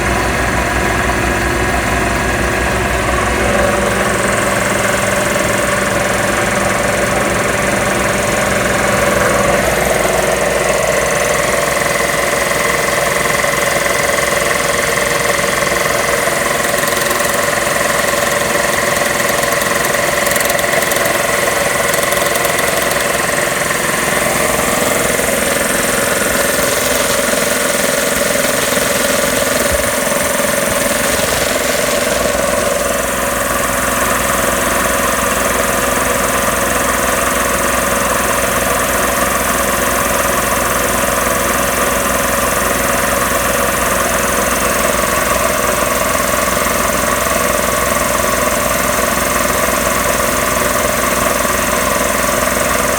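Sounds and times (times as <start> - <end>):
piston air compressor running: 0.0 - 52.9.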